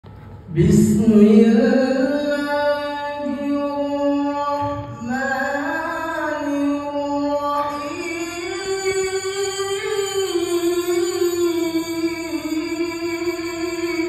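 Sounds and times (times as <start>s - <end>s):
man reciting melodically: 0.5s - 14.0s.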